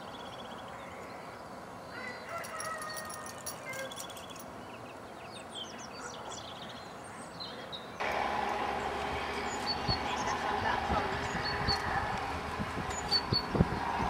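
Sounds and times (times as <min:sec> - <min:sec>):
small birds chirping: 0:00.0 - 0:14.0
steady outdoor noise: 0:00.0 - 0:14.0.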